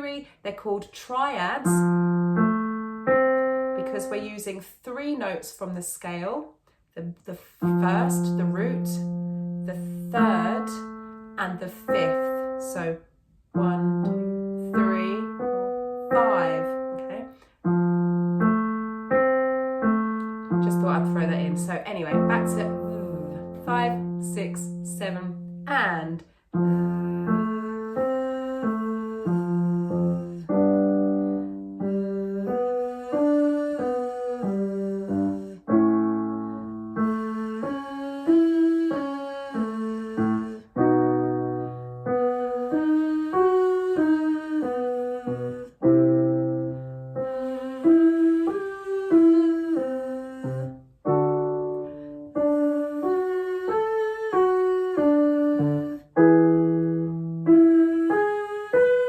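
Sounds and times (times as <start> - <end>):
piano arpeggios: 1.3 - 4.6, 7.6 - 39.4, 40.2 - 59.0.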